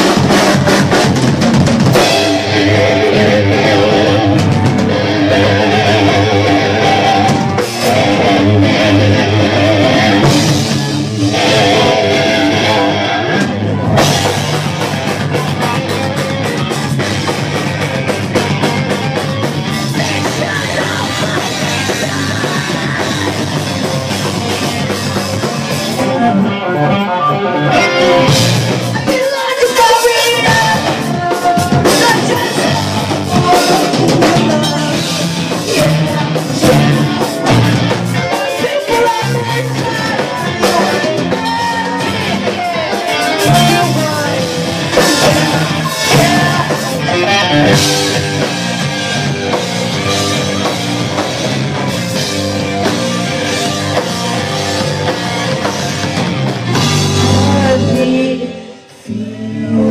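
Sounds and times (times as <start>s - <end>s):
drum kit played hard: 0.0s - 27.0s, 27.6s - 59.2s
bass guitar: 0.0s - 59.9s
distorted electric guitars: 0.0s - 59.9s.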